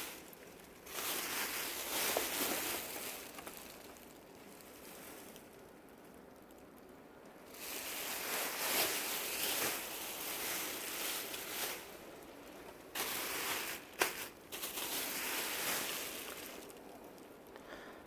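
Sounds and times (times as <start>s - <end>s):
fabric and wrapping rustling: 0.0s - 17.6s.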